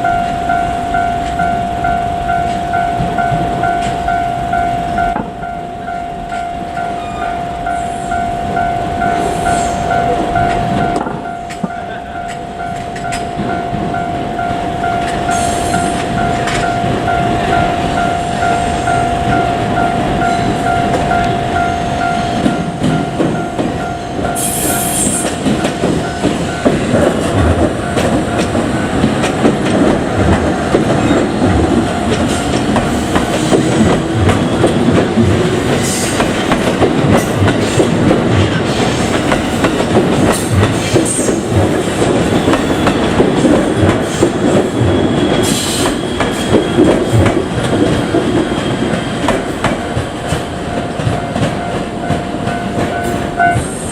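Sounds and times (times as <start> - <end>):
electric train rumble: 0.0 - 53.9
level-crossing alarm ringing: 0.0 - 53.9
wheels clickety-clack over rail joints: 0.0 - 53.9.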